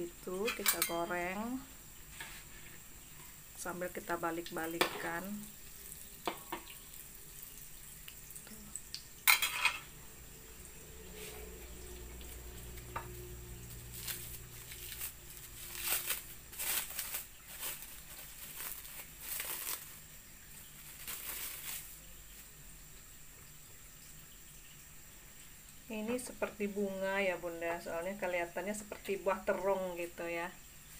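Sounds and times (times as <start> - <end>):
oil bubbling and crackling: 0.0 - 30.9.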